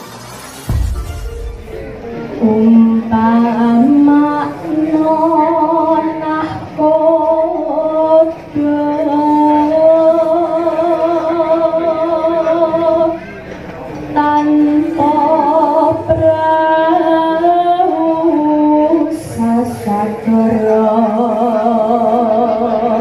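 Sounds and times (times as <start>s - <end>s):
woman singing into a microphone: 2.3s - 13.2s, 14.1s - 23.0s.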